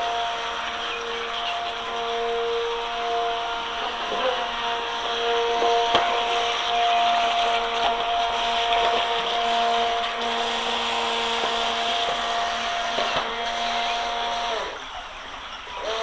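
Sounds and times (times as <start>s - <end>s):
small electric motor whining: 0.0s - 15.0s, 15.6s - 16.0s.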